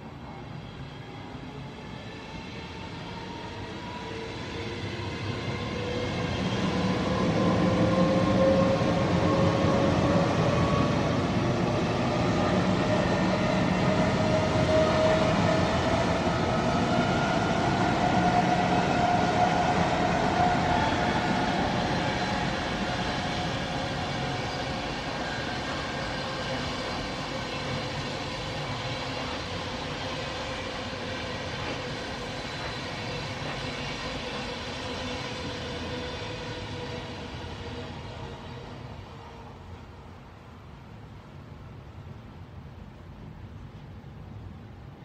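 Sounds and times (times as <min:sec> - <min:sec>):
train rumble and rattle: 0:00.1 - 0:45.0.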